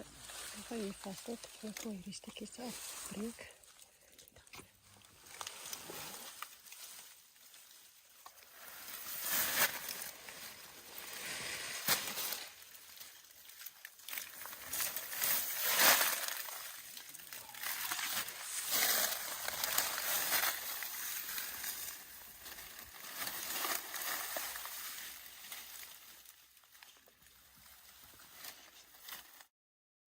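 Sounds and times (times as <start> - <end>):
leafy branches rustling: 0.0 - 29.5
elephants chewing branches: 4.9 - 29.4.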